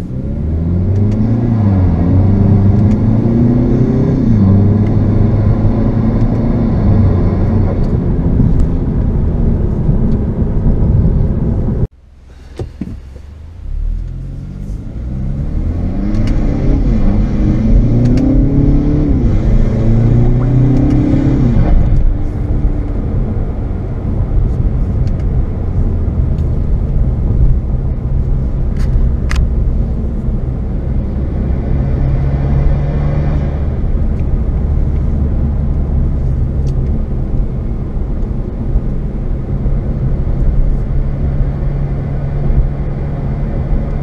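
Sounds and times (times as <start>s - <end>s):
car engine revving: 0.0s - 44.0s
low road rumble: 0.0s - 44.0s.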